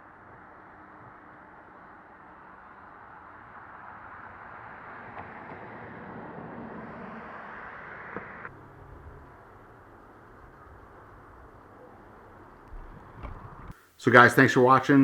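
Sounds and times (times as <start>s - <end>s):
steady rushing noise: 0.0s - 14.3s.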